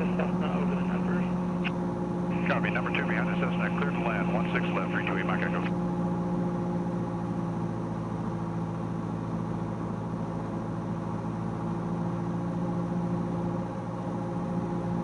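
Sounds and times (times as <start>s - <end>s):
plane engine and propeller droning: 0.0s - 15.0s.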